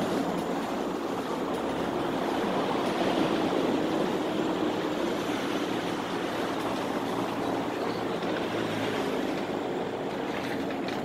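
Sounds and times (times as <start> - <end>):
vehicle running rumble: 0.0 - 11.0.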